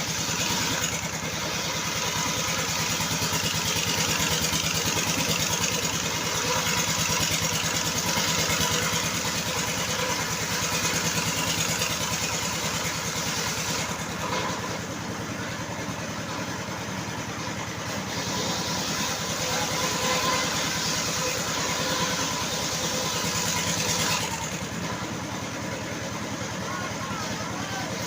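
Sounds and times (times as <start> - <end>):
engine-driven sawmill running: 0.0 - 28.0.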